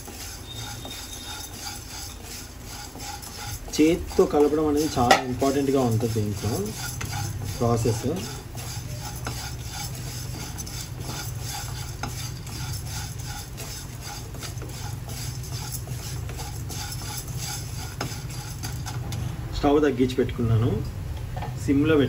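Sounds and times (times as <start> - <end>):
wooden spatula scraping noodles: 0.0 - 19.2.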